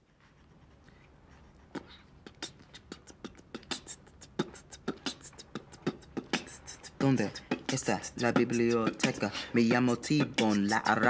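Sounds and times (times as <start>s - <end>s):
person beatboxing: 1.7s - 11.0s.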